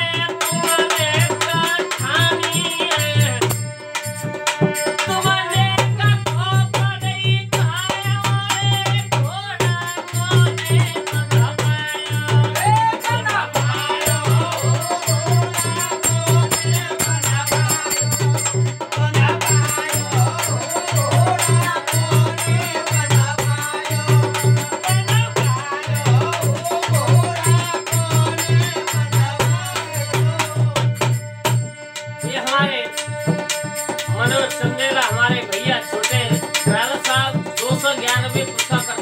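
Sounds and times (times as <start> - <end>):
harmonium: 0.0 - 39.0
jingling percussion: 0.0 - 39.0
man singing: 0.0 - 39.0.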